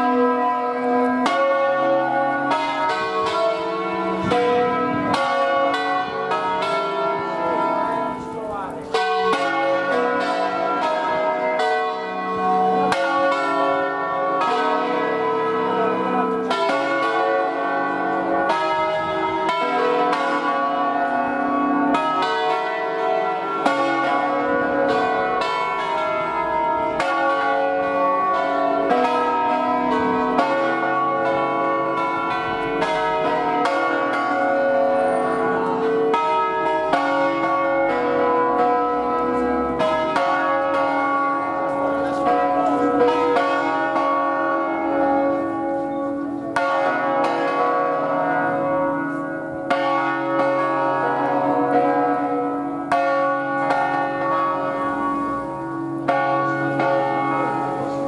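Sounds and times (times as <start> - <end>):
church bells ringing: 0.0 - 58.0.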